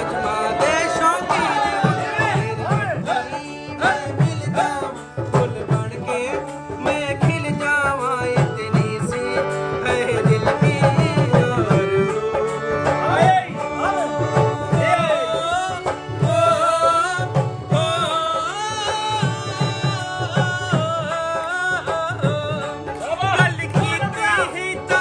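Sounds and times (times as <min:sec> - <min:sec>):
hand drum beat: 0:00.0 - 0:16.6, 0:17.3 - 0:25.0
men singing folk song: 0:00.0 - 0:25.0.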